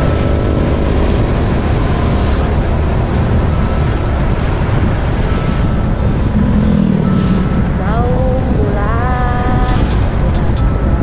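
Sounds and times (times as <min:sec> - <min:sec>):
vehicle engine and road noise: 0:00.0 - 0:11.0
wind buffeting microphone: 0:00.0 - 0:11.0.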